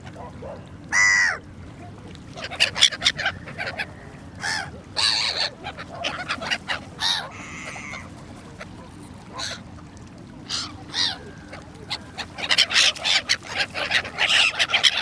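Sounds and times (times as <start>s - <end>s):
gulls calling: 0.0s - 9.7s, 10.4s - 15.0s.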